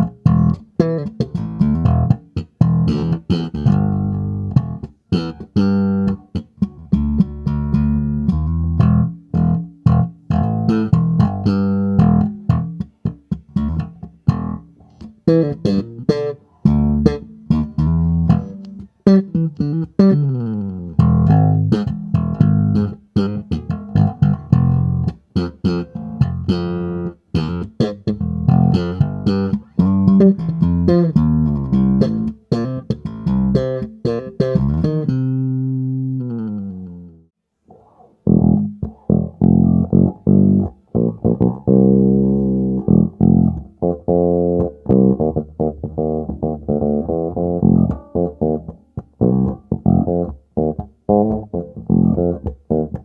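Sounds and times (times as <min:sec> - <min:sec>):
electric bass plucked notes: 0:00.0 - 0:53.0.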